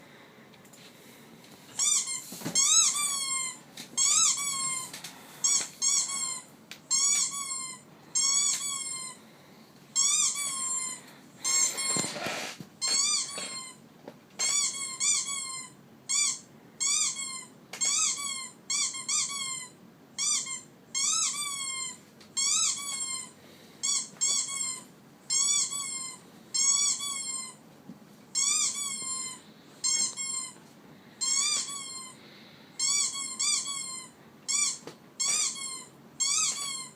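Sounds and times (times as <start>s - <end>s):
dog squeaking: 1.8s - 9.2s, 10.0s - 13.8s, 14.4s - 27.6s, 28.3s - 30.6s, 31.2s - 32.2s, 32.8s - 36.9s.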